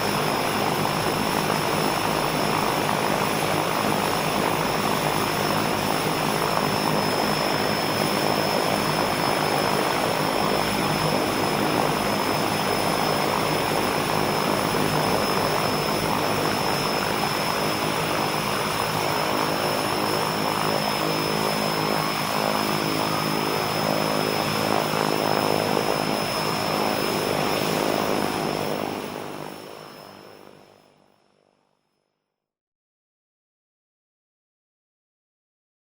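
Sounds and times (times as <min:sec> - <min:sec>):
high turbine whine: 0:00.0 - 0:30.8
propeller drone: 0:00.0 - 0:31.7.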